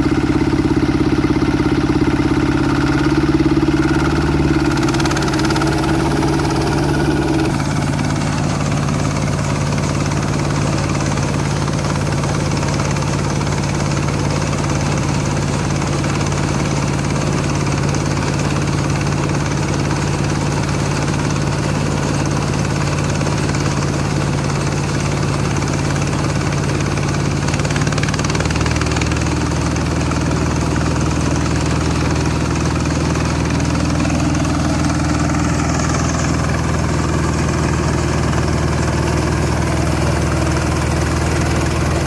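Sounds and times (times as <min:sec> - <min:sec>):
combine harvester engine running: 0:00.0 - 0:42.0.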